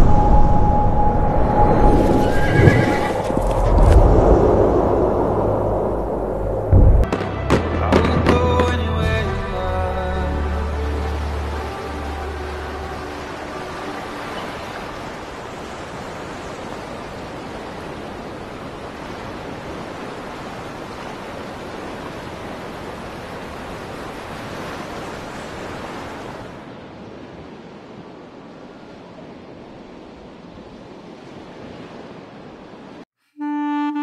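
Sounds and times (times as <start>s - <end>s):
sea surf rushing: 0.0s - 33.0s.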